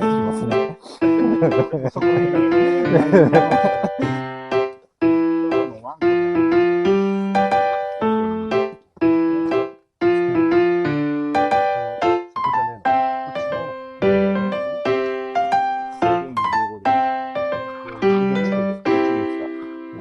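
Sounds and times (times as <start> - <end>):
electric piano melody: 0.0 - 20.0.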